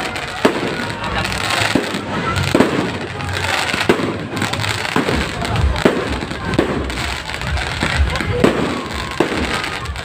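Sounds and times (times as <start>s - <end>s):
dense hiss of fireworks: 0.0s - 10.0s
firework bangs: 0.0s - 10.0s.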